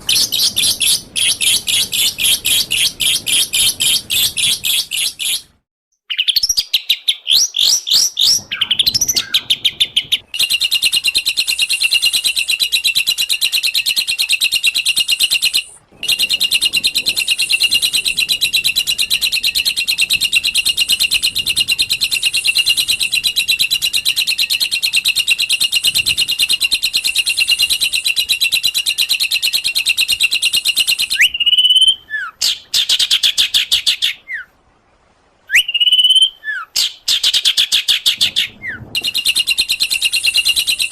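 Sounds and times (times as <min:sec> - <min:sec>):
songbird whistling and trilling: 0:00.1 - 0:05.4, 0:06.1 - 0:34.5, 0:35.5 - 0:40.9.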